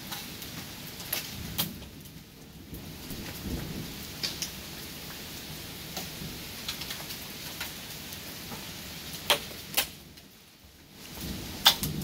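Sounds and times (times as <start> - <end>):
raindrops tapping close by: 0.0 - 12.0
steady rain falling: 0.0 - 12.0.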